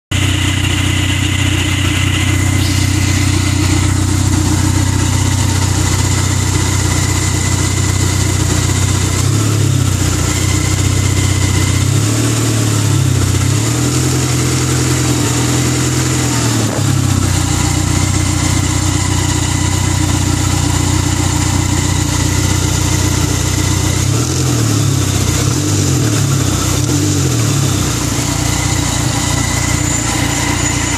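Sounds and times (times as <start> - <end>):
car engine running: 0.1 - 30.9
high whine: 0.1 - 30.9.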